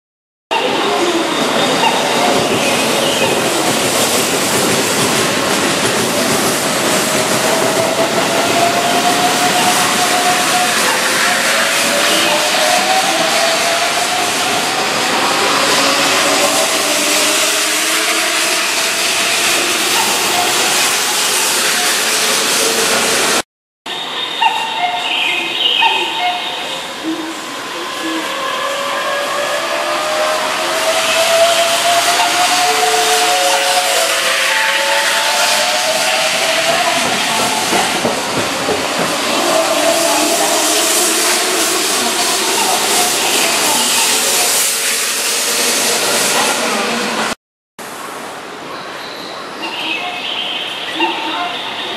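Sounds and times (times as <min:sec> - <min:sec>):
station background: 0:00.5 - 0:44.6
electric train passing: 0:00.6 - 0:51.9.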